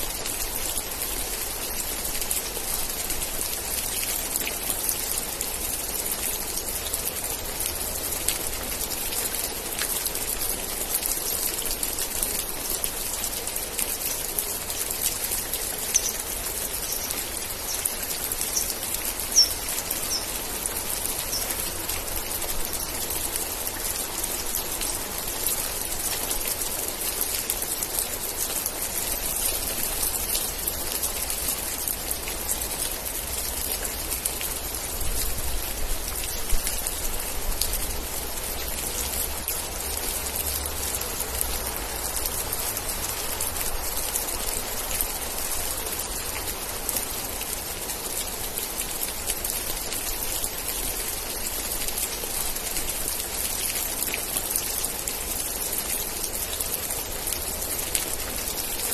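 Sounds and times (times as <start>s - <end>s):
rain hiss with drop ticks: 0.0s - 58.9s.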